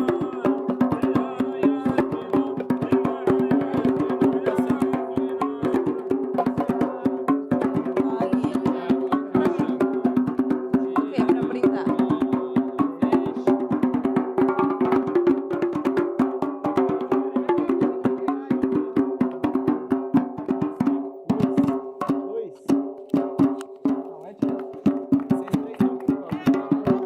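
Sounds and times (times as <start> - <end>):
hand-struck percussion beats: 0.0 - 27.0.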